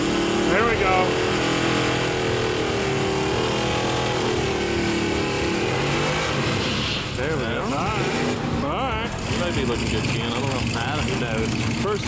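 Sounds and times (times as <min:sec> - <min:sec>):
engine revving high: 0:00.0 - 0:12.0
tires spinning on wet surface: 0:00.0 - 0:12.0.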